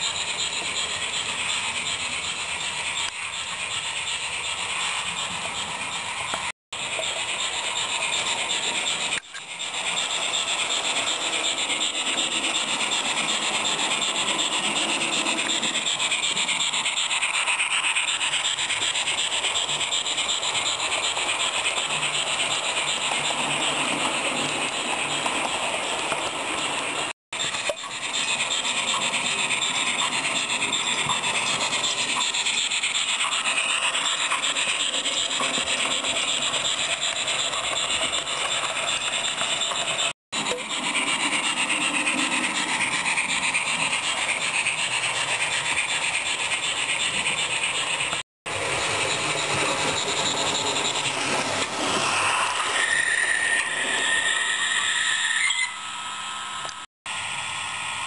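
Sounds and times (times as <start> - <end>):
hissing steam engine sound from speaker: 0.0 - 58.0
model train wheels on track: 0.0 - 58.0.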